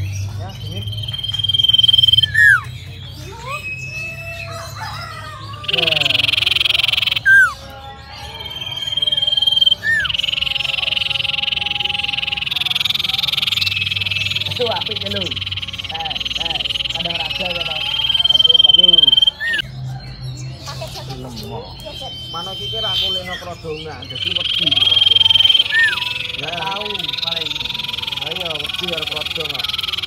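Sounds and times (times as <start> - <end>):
bird singing whistles and trills: 0.0 - 30.0.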